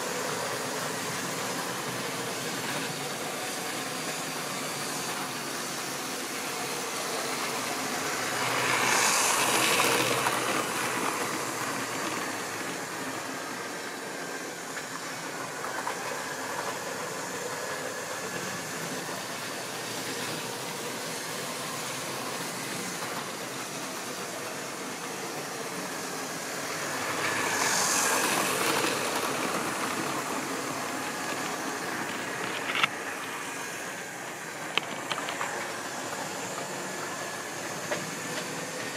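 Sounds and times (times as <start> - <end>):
model trains running: 0.0 - 38.9.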